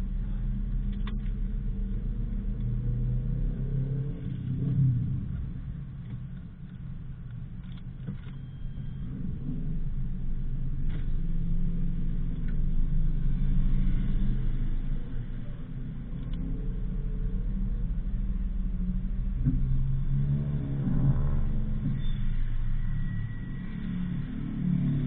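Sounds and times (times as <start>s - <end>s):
road rumble: 0.0s - 25.0s.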